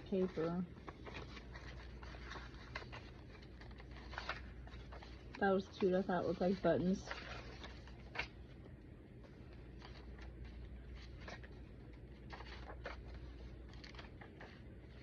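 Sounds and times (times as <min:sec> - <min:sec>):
pages rustling: 0:00.0 - 0:15.0.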